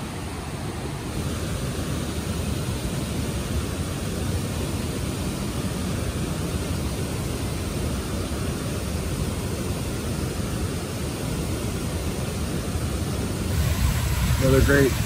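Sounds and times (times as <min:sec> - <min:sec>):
river whitewater rushing: 0:00.0 - 0:15.0.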